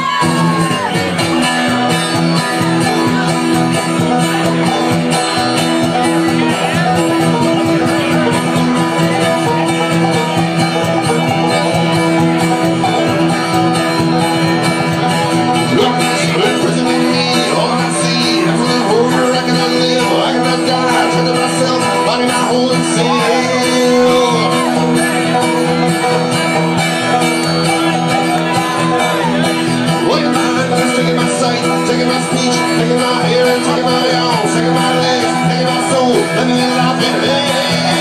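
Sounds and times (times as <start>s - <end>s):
banjo: 0.0s - 38.0s
bluegrass string band: 0.0s - 38.0s
picked guitar: 0.0s - 38.0s.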